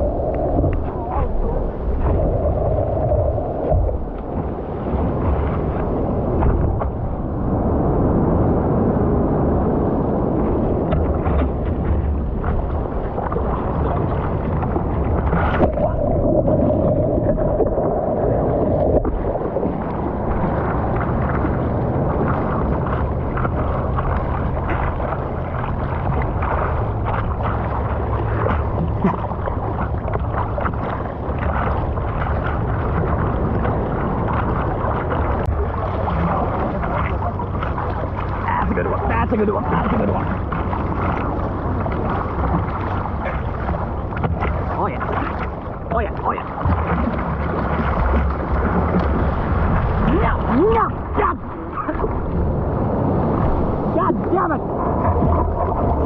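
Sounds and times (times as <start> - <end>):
waves washing and churning: 0.0 - 56.0
wind noise: 0.0 - 56.0.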